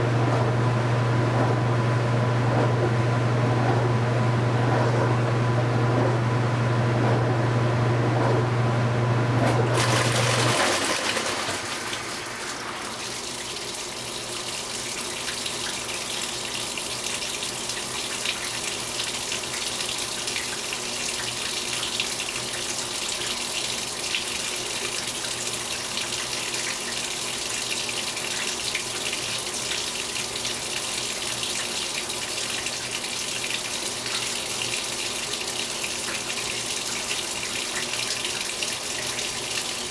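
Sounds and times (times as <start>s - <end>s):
washing machine motor hum: 0.0s - 39.9s
water rushing into tub: 0.0s - 39.9s.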